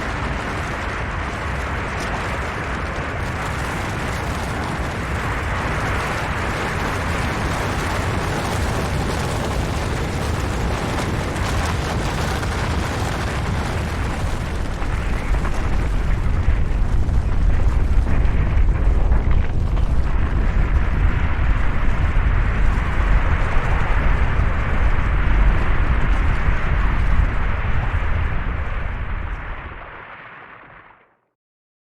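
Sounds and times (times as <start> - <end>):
deep low rumble: 0.0 - 30.8
crackling rush of sliding snow: 0.0 - 31.2.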